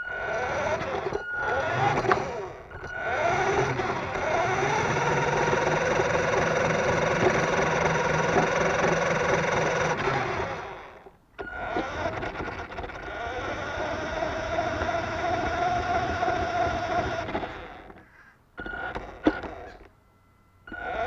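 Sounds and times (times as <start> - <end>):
model car electric motor whining: 0.0 - 19.9, 20.6 - 21.0.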